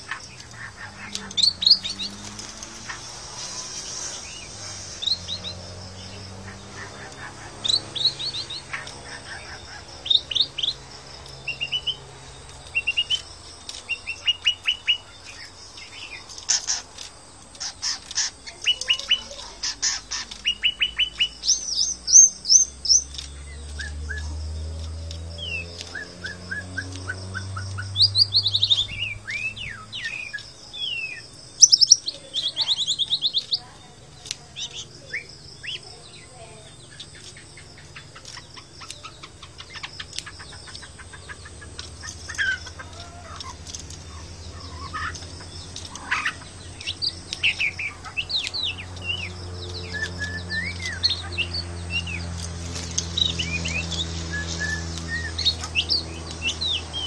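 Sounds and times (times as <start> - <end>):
bird singing whistles and trills: 0.0 - 10.8, 11.4 - 16.9, 17.6 - 33.6, 34.6 - 42.8, 43.4 - 57.0.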